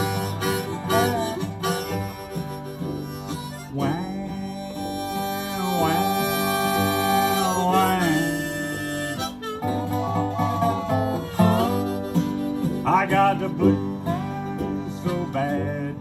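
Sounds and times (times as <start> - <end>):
harmonica with bent notes: 0.0 - 16.0
strummed guitar: 0.0 - 16.0.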